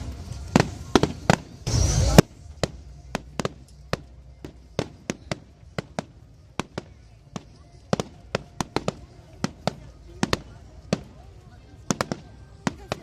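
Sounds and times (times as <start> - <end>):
firework bangs and cracks: 0.0 - 13.0
firework rushing burst: 0.0 - 13.0.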